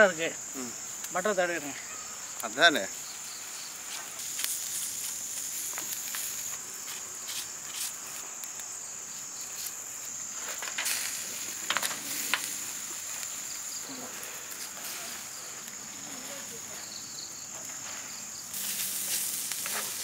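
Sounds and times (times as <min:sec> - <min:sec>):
crickets and insects trilling: 0:00.0 - 0:20.0.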